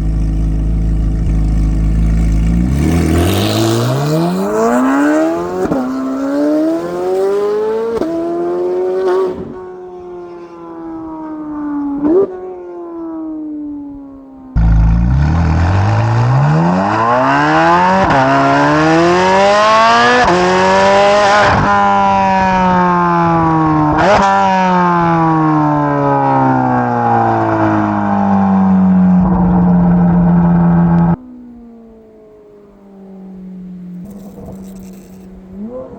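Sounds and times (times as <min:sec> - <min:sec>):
car engine accelerating with upshifts: 0:00.0 - 0:35.9.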